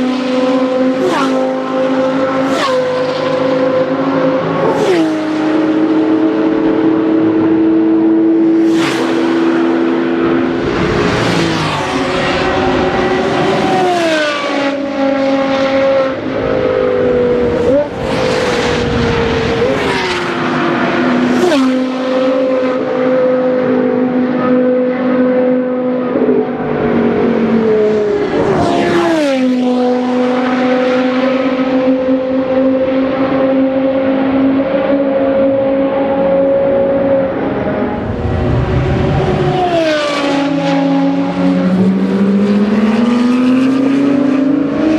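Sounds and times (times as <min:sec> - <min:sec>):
sports car accelerating past: 0:00.0 - 0:44.9.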